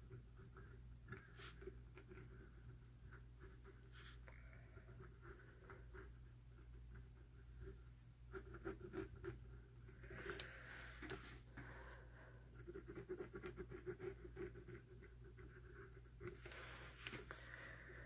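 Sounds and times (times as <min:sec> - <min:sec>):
coloured pencil scratching on paper: 0:00.0 - 0:11.4, 0:12.5 - 0:17.3.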